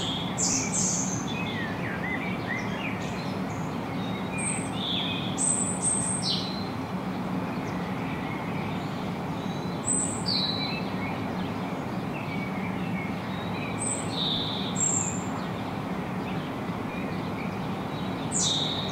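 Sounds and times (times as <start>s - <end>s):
low background noise: 0.0s - 18.9s
songbird chirping: 0.0s - 18.9s.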